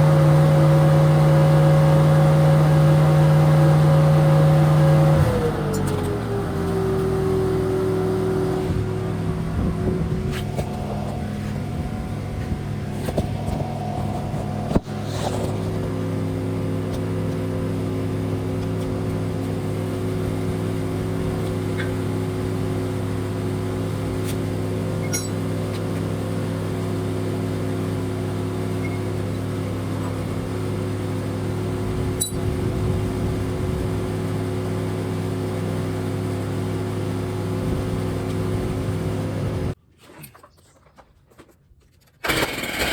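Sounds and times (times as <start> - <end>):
motor humming: 0.0 - 39.8.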